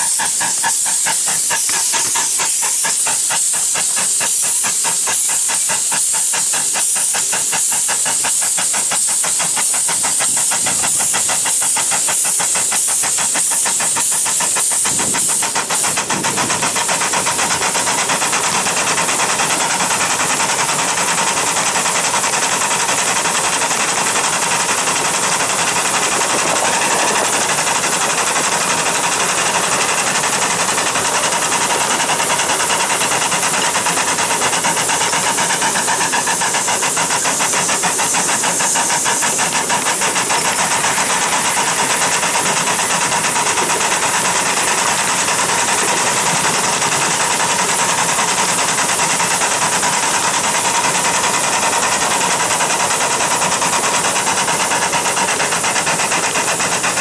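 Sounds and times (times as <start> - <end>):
rapid fine ticking: 0.0 - 49.9
train running: 0.0 - 57.0.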